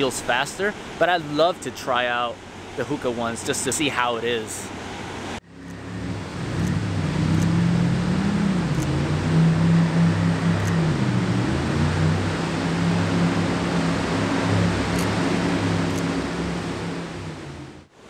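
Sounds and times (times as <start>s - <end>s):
jet boat engine running: 0.0s - 18.0s.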